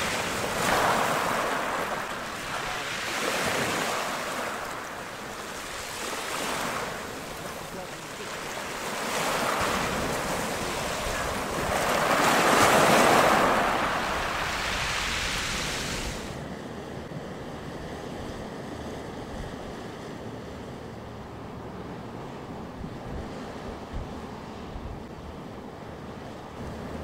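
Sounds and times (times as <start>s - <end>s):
waves breaking: 0.0s - 27.0s
wind buffeting microphone: 0.0s - 27.0s.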